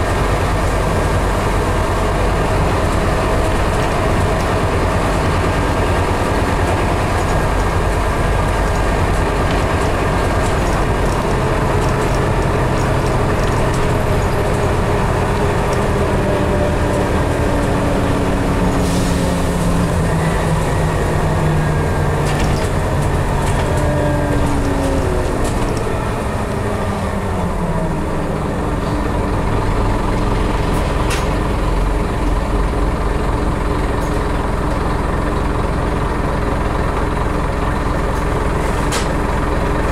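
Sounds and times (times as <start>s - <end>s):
bus diesel engine running: 0.0s - 39.9s
drivetrain whine: 0.0s - 39.9s
road and tyre noise: 0.0s - 39.9s.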